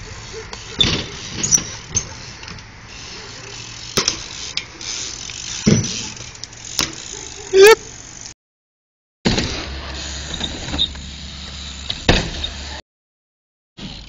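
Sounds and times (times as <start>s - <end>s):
bike wheels knocking and landing: 0.2s - 8.1s, 9.3s - 12.8s.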